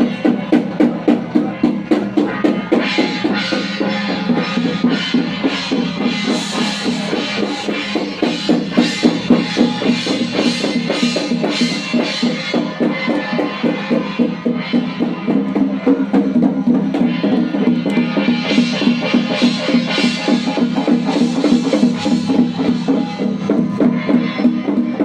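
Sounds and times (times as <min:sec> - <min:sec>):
fast steady drumming: 0:00.0 - 0:25.0.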